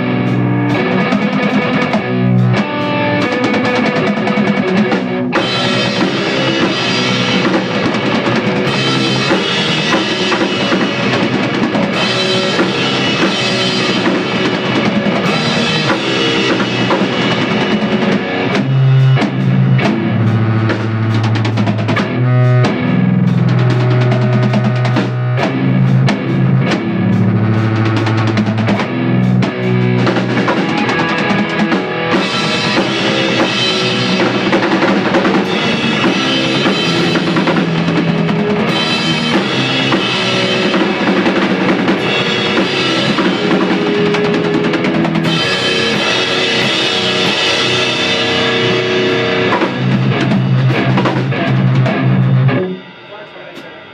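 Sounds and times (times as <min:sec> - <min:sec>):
drum kit: 0:00.0 - 0:53.9
electric guitar: 0:00.0 - 0:53.9.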